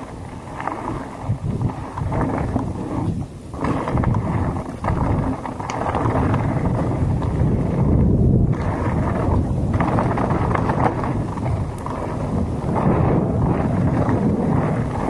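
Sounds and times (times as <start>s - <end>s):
bike rattling: 0.0s - 15.0s
tyres crunching on gravel: 0.0s - 15.0s
wind rushing over microphone: 0.0s - 15.0s.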